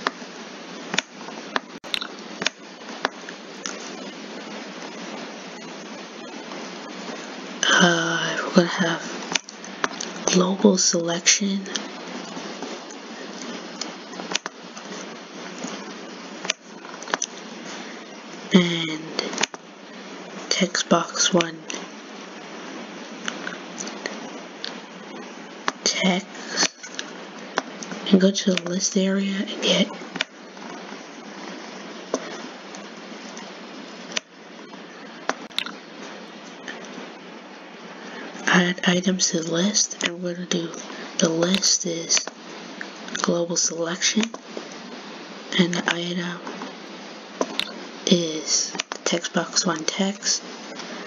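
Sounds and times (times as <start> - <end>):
steady background hiss: 0.0 - 51.0.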